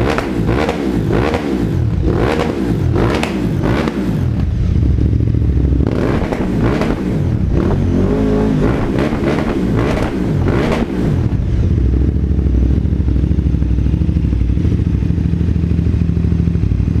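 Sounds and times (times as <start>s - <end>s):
v-twin engine revving and idling: 0.0s - 17.0s.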